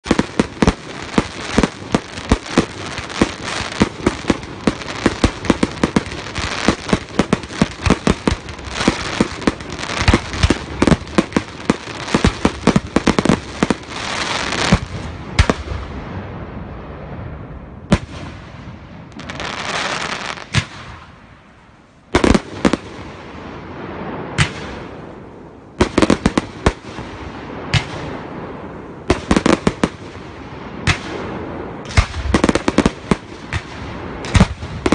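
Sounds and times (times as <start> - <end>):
firework crackle: 0.0 - 34.9.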